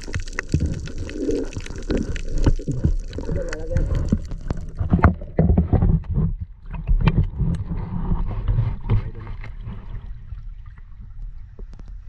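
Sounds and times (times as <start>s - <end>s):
seawater sloshing and gurgling: 0.0s - 11.5s.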